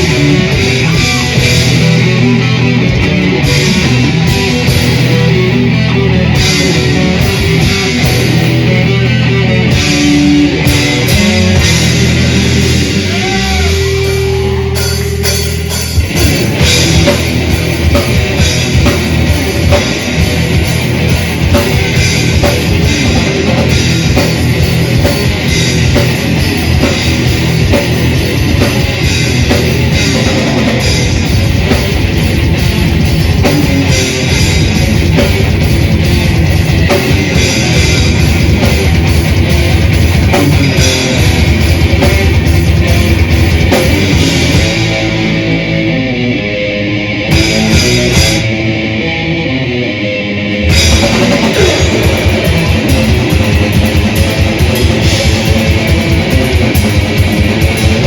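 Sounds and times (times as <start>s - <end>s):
fast driving drum beat: 0.0s - 45.4s, 47.3s - 48.5s, 50.7s - 58.0s
distorted electric guitars: 0.0s - 58.0s.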